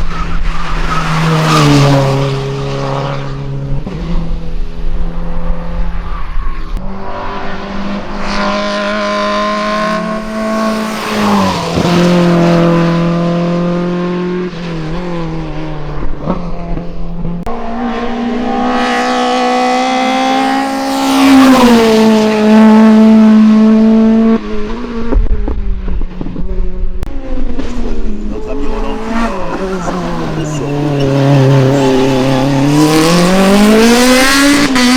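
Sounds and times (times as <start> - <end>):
racing car engines at full throttle: 0.0 - 34.9.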